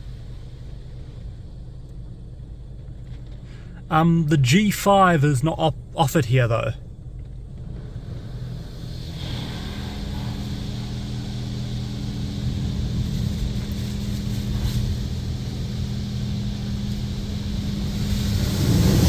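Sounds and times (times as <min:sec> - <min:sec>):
car wash machine hum: 0:00.0 - 0:19.0.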